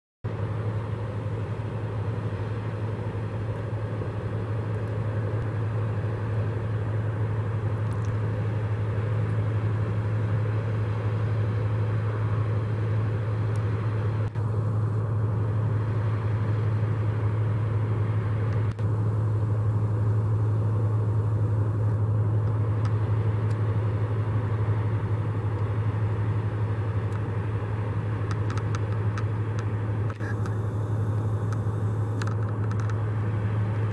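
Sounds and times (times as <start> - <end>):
barge diesel engine drone: 0.2 - 33.9.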